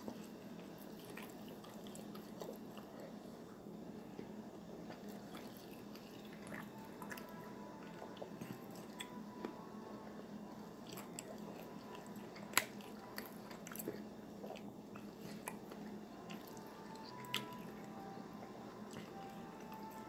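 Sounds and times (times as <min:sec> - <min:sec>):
person chewing: 0:00.0 - 0:03.4, 0:04.8 - 0:09.6, 0:10.7 - 0:20.0.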